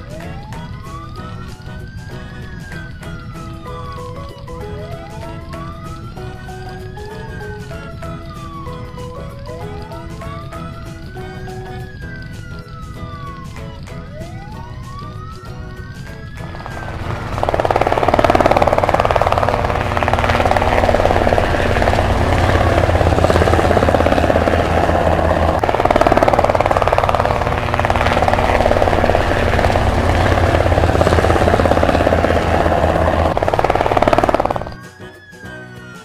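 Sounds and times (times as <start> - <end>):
helicopter rotor chop: 0.0 - 35.5
helicopter engine drone: 0.0 - 36.0.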